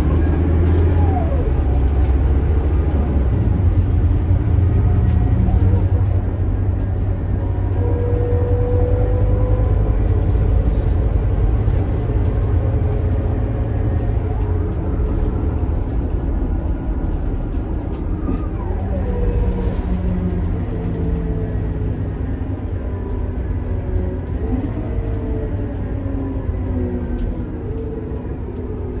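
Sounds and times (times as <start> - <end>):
diesel coach engine rumbling: 0.0 - 29.0.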